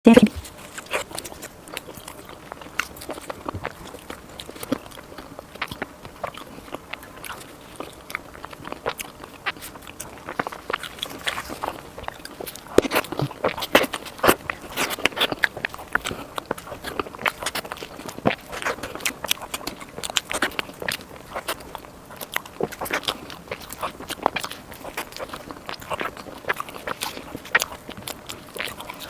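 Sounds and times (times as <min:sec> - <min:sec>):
person chewing soft food: 0:00.1 - 0:29.0.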